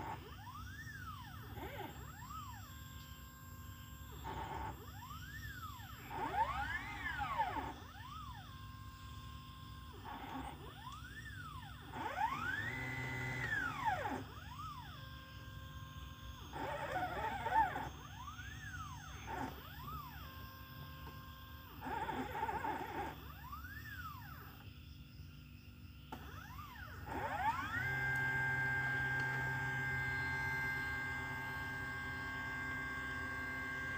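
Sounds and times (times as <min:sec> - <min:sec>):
stepper motors whining: 0:00.0 - 0:33.9.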